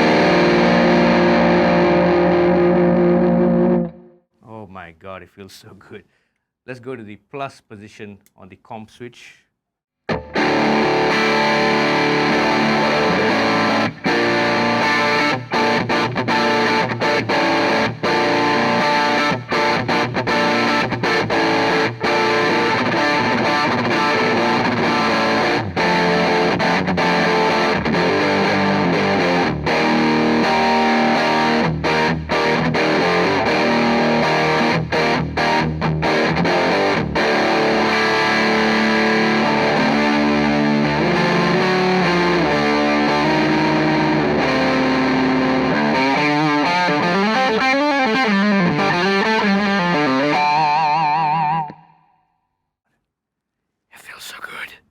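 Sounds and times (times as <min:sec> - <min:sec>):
distorted electric guitar riffs: 0:00.0 - 0:04.1, 0:10.1 - 0:51.8.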